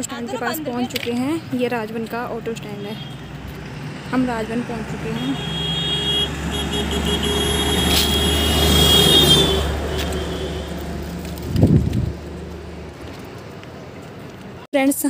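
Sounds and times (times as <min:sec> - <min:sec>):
bus passing: 0:00.0 - 0:14.7.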